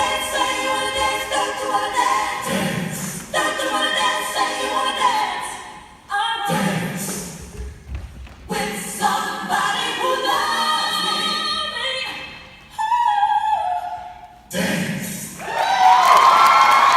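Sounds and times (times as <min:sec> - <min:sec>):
music with choir-like singing: 0:00.0 - 0:07.6, 0:08.4 - 0:15.4.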